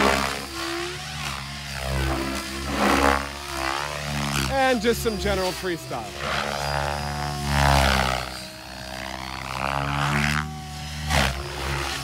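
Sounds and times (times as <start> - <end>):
model helicopter rotor drone: 0.0 - 12.0.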